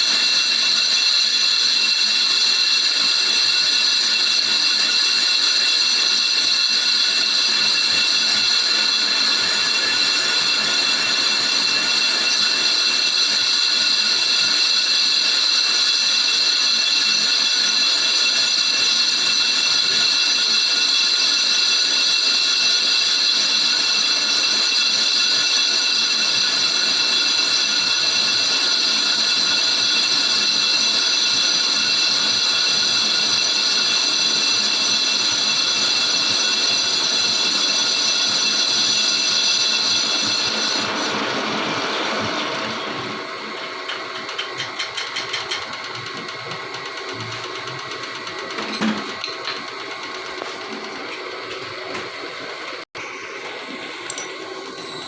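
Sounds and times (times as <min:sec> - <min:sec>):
lathe cutting tool squealing: 0:00.0 - 0:55.0.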